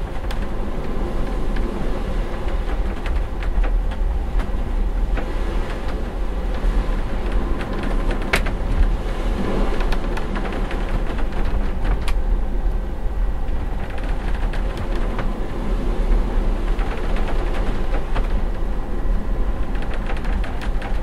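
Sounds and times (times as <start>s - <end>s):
cabin ticks and rattles: 0.0s - 9.0s, 9.8s - 12.2s, 13.4s - 15.4s, 16.6s - 18.6s, 19.5s - 21.0s
ship engines rumbling: 0.0s - 21.0s.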